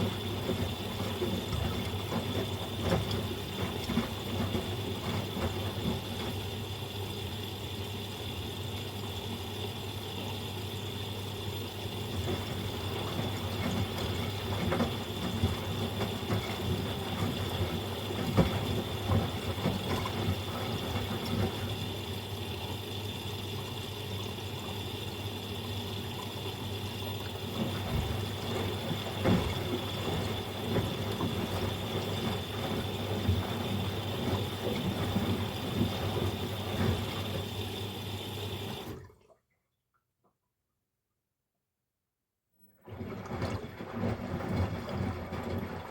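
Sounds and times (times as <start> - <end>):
washing machine drum sloshing: 0.0 - 39.4, 42.8 - 45.9.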